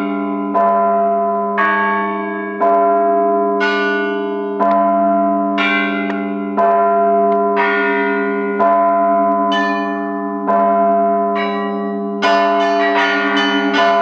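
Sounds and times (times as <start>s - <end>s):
heavy church bell strokes: 0.0s - 14.0s
low bells humming: 0.0s - 14.0s
smaller higher bells: 0.0s - 14.0s.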